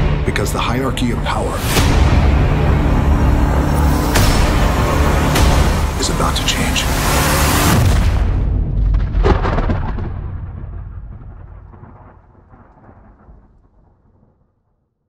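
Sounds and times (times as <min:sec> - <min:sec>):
deep trailer impact: 0:00.0 - 0:12.6
thunder-like low rumble: 0:01.8 - 0:14.5.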